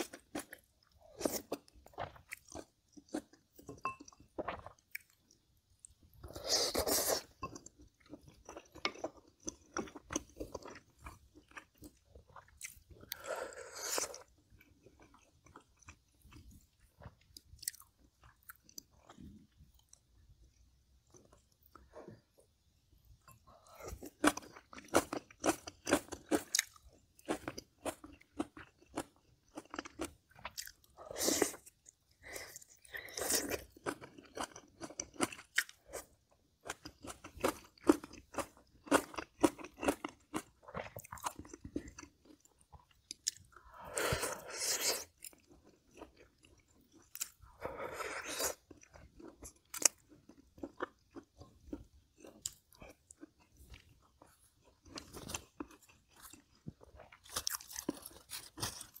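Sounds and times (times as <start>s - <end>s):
person chewing and crunching food: 0.0s - 22.6s, 23.2s - 59.0s.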